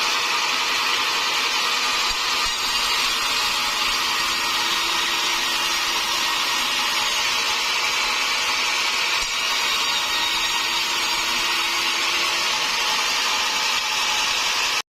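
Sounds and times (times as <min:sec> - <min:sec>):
sawmill saw cutting timber: 0:00.0 - 0:14.8.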